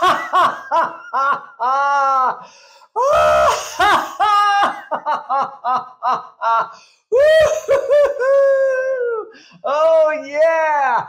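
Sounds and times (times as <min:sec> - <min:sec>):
man laughing: 0:00.0 - 0:09.3.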